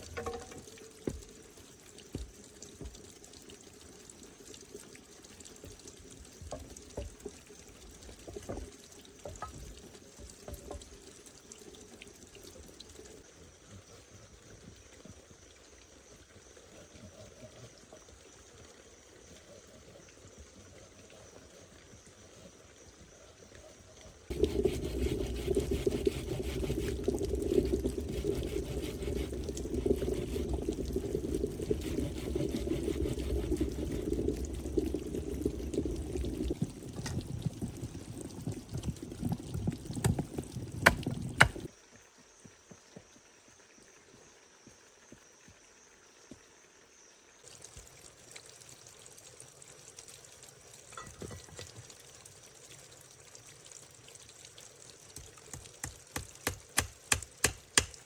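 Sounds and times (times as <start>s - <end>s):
running water: 0.0s - 41.7s, 47.4s - 58.0s.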